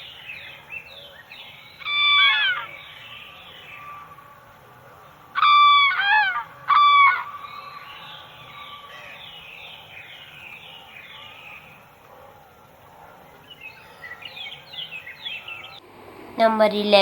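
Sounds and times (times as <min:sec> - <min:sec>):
chorus of small bird calls: 0:00.0 - 0:15.8
crane calling: 0:00.0 - 0:16.2.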